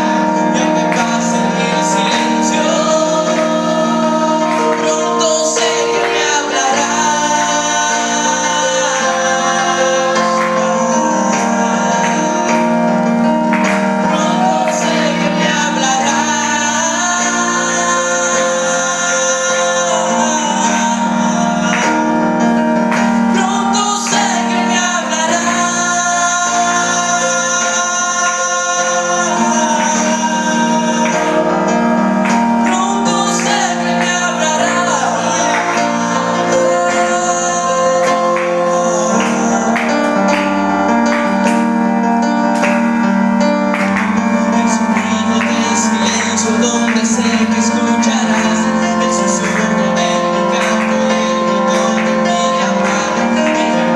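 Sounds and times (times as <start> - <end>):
instrumental backing: 0.0 - 53.9
worship song singing: 0.0 - 53.9.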